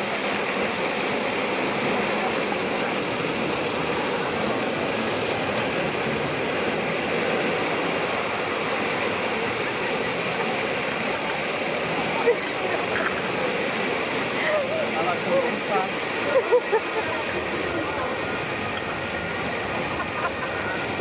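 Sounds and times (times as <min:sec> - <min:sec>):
fountain water spraying: 0:00.0 - 0:21.0
water pouring onto paving: 0:00.0 - 0:21.0
water spray on rubber dinghy: 0:00.0 - 0:21.0.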